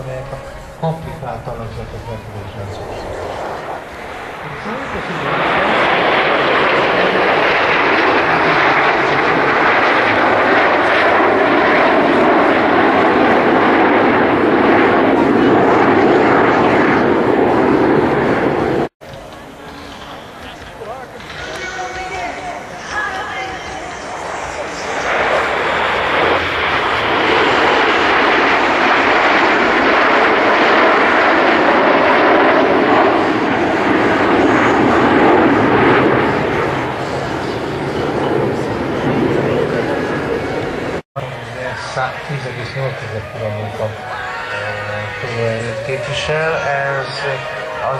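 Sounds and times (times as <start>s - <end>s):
jet aircraft noise: 0.0s - 47.9s.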